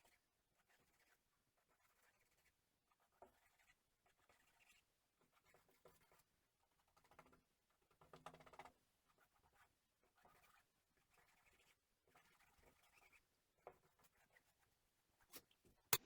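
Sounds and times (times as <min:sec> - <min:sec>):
faint scratching and rubbing: 0:00.0 - 0:15.6.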